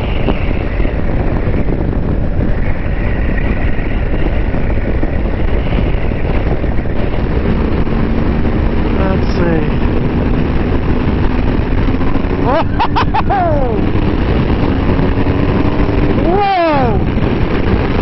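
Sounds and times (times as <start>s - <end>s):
motorcycle road noise on wet road: 0.0s - 18.0s
wind rush: 0.0s - 18.0s.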